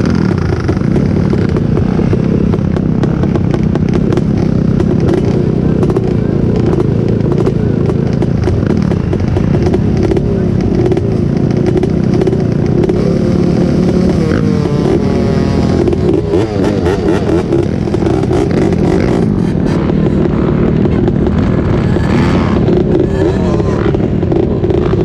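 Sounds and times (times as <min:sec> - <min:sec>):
off-road engines revving: 0:00.0 - 0:25.0.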